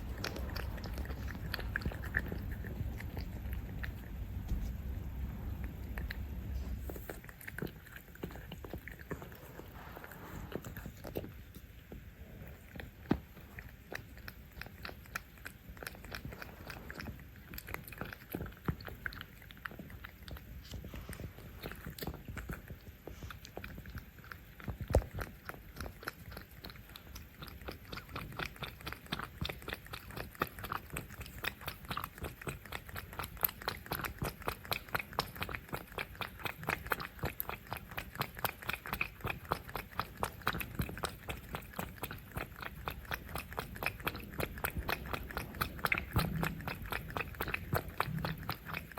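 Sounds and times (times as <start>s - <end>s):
cats chewing food: 0.0s - 48.9s.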